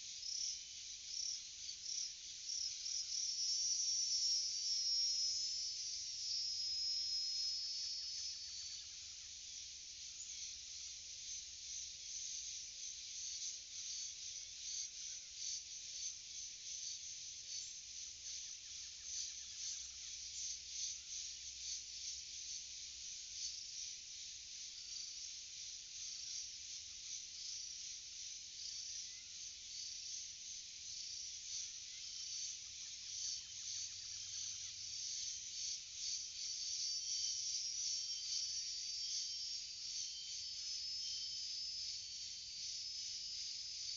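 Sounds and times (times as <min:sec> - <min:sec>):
insect chorus buzzing and trilling: 0:00.0 - 0:43.9.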